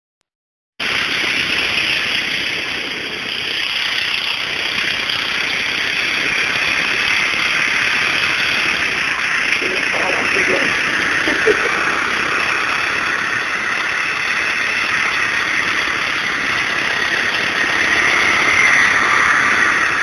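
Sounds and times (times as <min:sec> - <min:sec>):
garden tractor engine running: 0:00.8 - 0:20.0.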